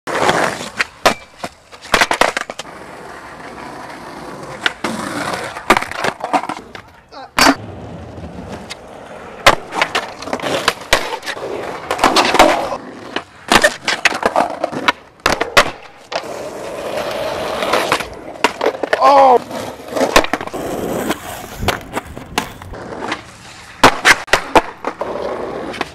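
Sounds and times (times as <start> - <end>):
skateboards clacking on ground: 0.1 - 25.9
skateboards rolling on pavement: 0.1 - 25.9.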